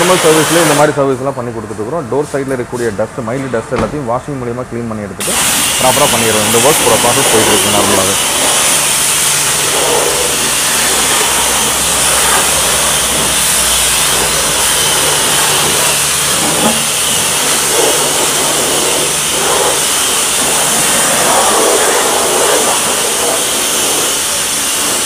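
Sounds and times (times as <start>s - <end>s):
pressure washer spraying water: 0.0s - 1.2s, 5.2s - 25.0s.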